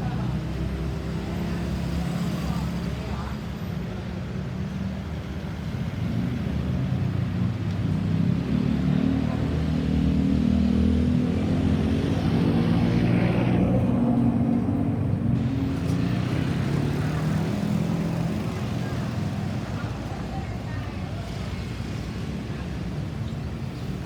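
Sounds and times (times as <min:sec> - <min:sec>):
vehicle engines droning: 0:00.0 - 0:24.0.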